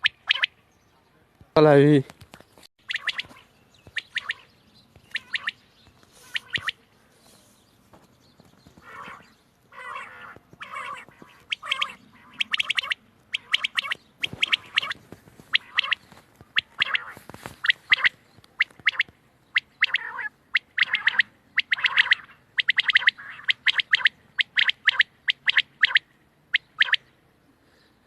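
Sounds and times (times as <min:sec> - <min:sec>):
quail calling: 0:00.0 - 0:00.6, 0:02.8 - 0:06.8, 0:08.6 - 0:27.1.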